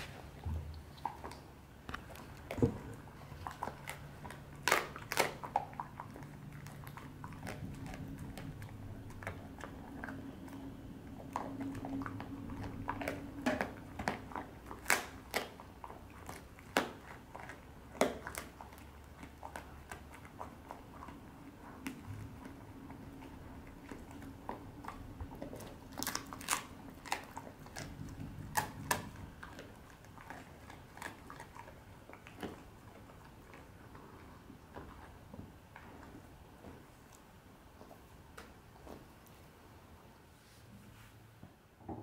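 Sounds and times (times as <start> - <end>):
dog chewing a bone: 0.0 - 39.3.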